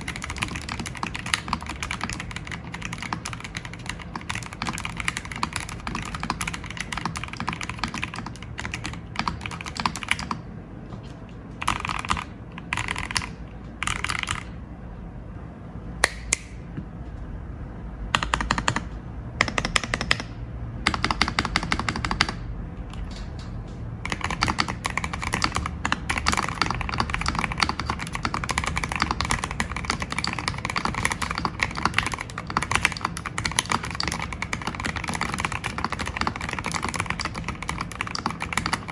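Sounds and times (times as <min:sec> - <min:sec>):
mechanical keyboard typing: 0:00.0 - 0:14.6, 0:18.1 - 0:23.4, 0:24.0 - 0:38.9.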